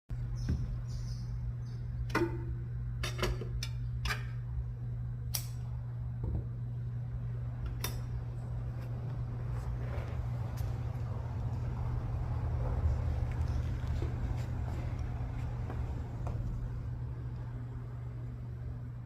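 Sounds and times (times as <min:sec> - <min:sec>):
steady low hum: 0:00.1 - 0:19.0.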